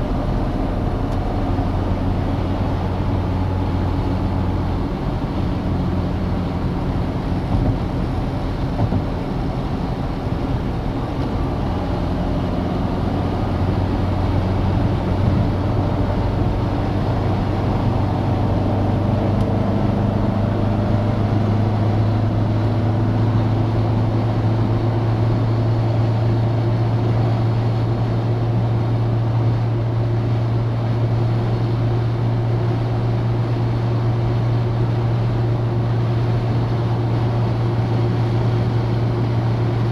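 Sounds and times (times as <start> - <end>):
car engine droning: 0.0 - 39.9
road noise: 0.0 - 39.9.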